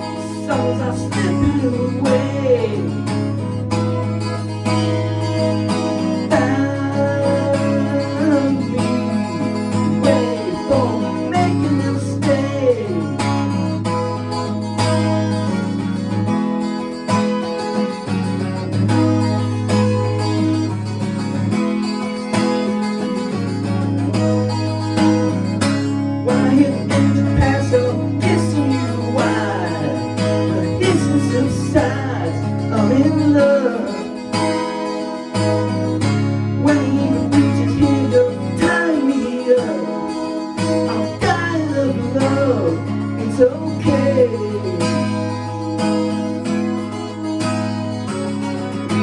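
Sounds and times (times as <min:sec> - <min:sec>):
strummed acoustic guitar: 0:00.0 - 0:49.0.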